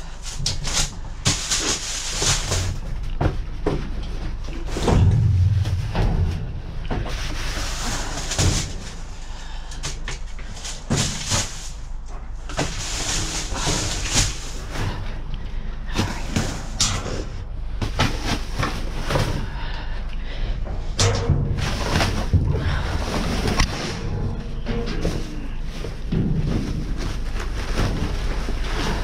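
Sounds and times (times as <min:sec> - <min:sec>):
objects rustling and clattering: 0:00.0 - 0:29.0
low rumble: 0:02.8 - 0:29.0.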